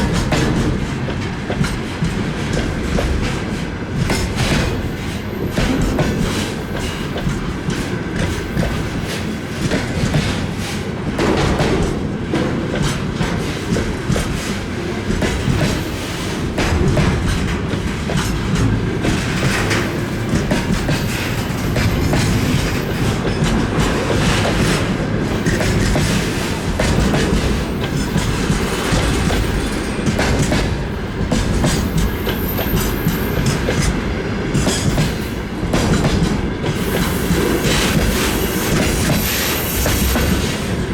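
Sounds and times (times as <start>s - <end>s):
rumbling rail noise: 0.0s - 40.9s.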